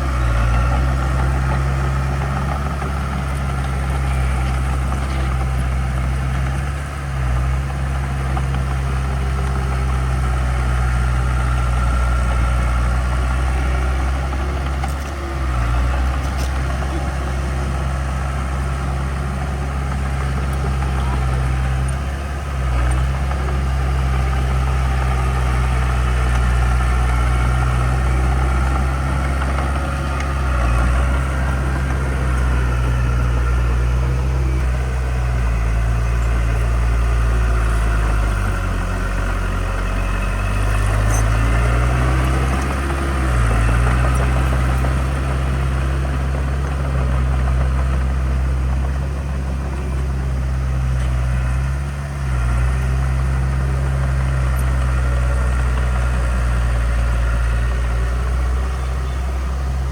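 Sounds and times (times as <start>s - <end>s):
heavy diesel engine humming: 0.0s - 59.9s.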